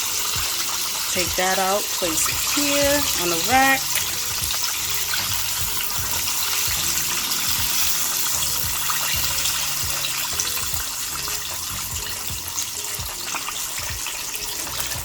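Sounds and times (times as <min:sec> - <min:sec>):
oil sizzling while deep-frying: 0:00.0 - 0:15.0.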